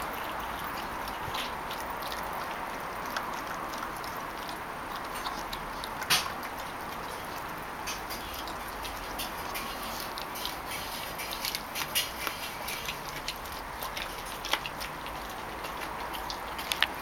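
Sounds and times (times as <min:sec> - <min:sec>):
puppy chewing and licking: 0:00.0 - 0:17.0.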